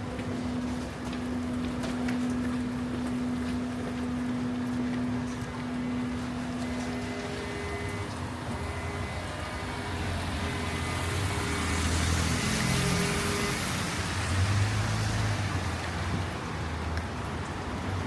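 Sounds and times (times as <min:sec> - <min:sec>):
tyres hissing on wet street: 0:00.0 - 0:18.0.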